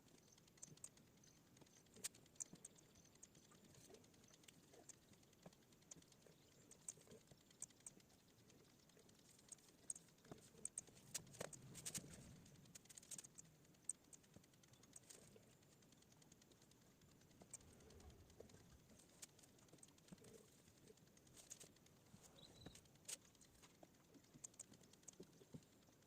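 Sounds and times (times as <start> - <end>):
computer mouse clicks: 0.0 - 26.0.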